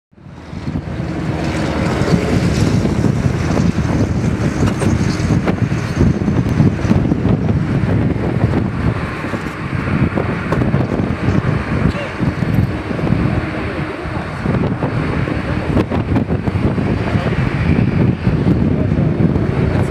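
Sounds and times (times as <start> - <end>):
jet engines roaring at takeoff: 0.1 - 19.9.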